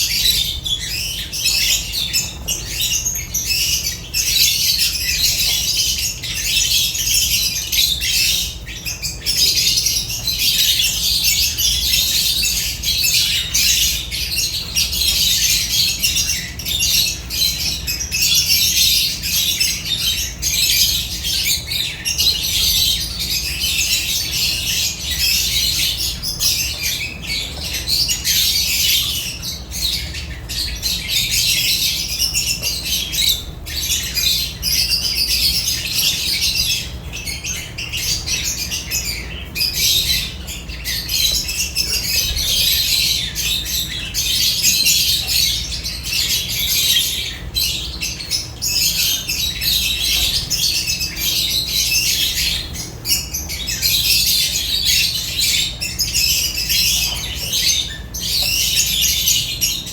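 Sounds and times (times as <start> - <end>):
flock of birds chattering: 0.0 - 59.9.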